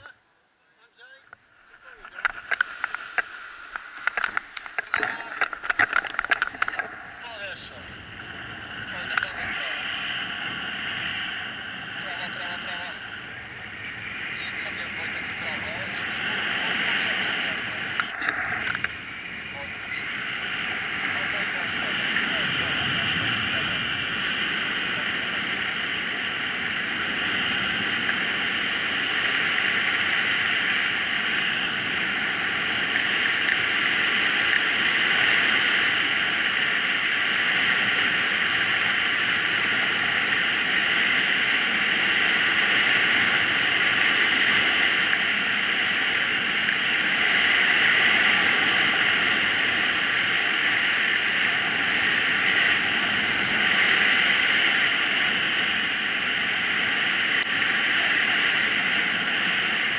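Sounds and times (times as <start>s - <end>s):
wind rushing over microphone: 1.0s - 59.9s.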